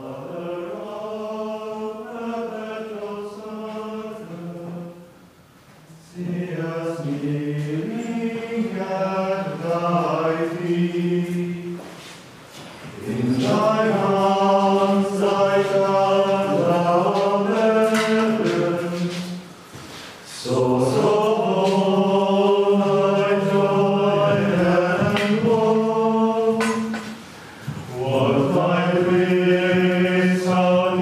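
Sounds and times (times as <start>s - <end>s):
men singing plainchant: 0.0s - 5.1s, 5.9s - 12.0s, 12.8s - 31.0s.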